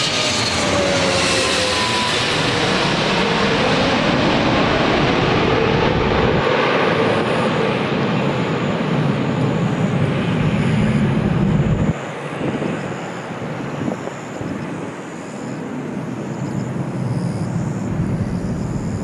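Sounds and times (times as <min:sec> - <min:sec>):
airliner engines rumbling: 0:00.0 - 0:19.0.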